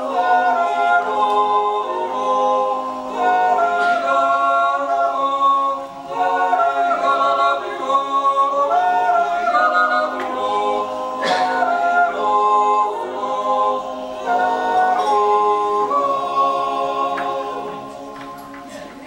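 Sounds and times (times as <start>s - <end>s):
men's choir singing a cappella: 0.0s - 19.0s.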